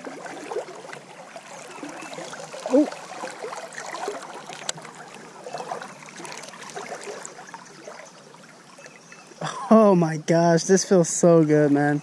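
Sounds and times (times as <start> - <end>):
river water rippling: 0.0 - 12.0.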